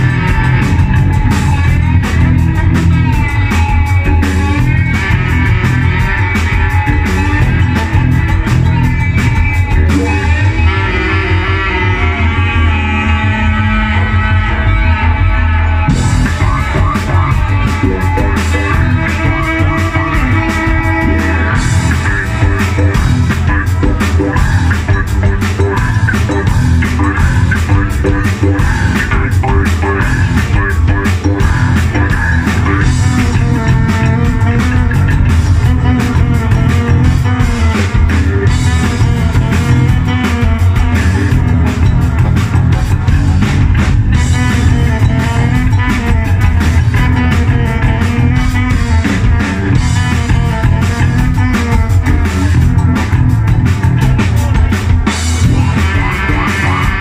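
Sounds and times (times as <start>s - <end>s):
live band playing: 0.0s - 57.0s
saxophone: 0.0s - 57.0s.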